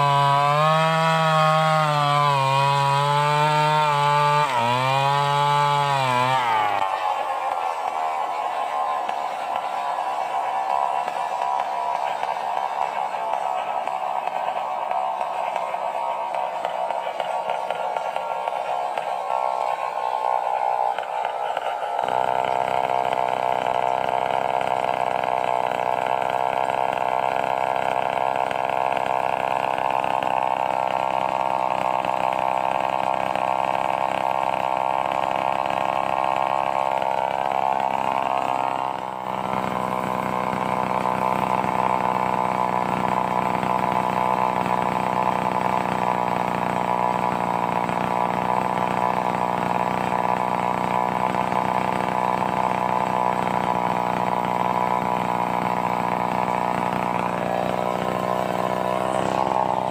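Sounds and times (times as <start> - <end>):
chainsaw running: 0.0 - 59.9.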